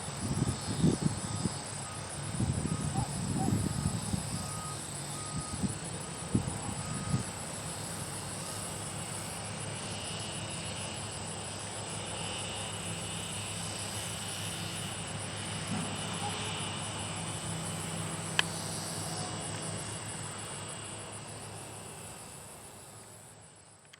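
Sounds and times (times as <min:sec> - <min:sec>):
insects chirring: 0:00.0 - 0:23.9.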